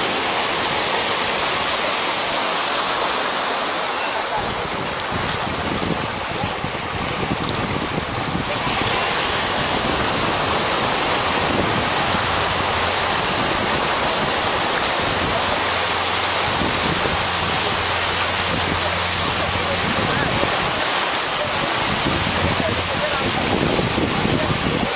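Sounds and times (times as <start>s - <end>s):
surf breaking on sandy beach: 0.0s - 24.9s
wind rumbling on microphone: 4.3s - 24.9s.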